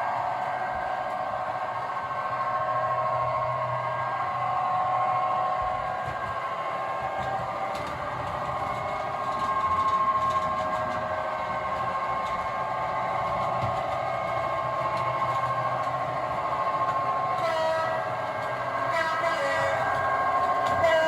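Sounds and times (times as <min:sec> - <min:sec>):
model locomotive whine: 0:00.0 - 0:21.0.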